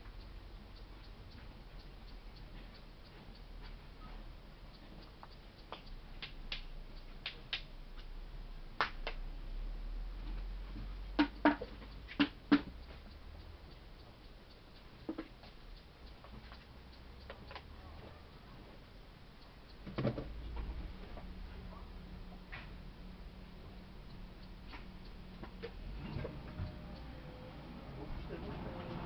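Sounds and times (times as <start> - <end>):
faint clicks and ticks: 0.0 - 29.0.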